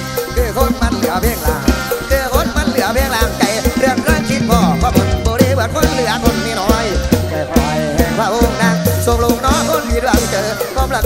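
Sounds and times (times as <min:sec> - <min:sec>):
electric guitar melody: 0:00.0 - 0:10.7
drum kit and bass beat: 0:00.0 - 0:11.0
keyboard melody: 0:00.0 - 0:11.0
khaen melody: 0:00.0 - 0:11.0.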